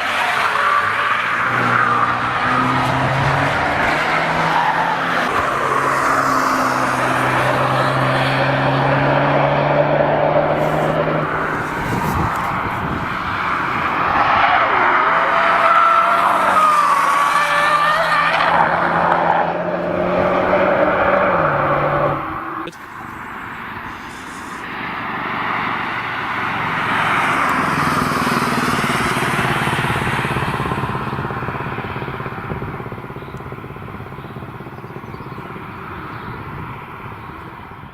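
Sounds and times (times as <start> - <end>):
car engine running hard: 0.0 - 37.9
road noise: 0.0 - 37.9.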